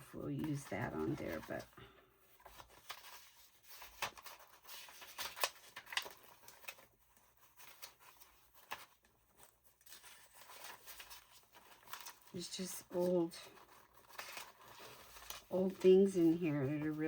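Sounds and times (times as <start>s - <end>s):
paper rustling: 0.0s - 17.0s
paper taps and crinkles: 0.0s - 17.0s.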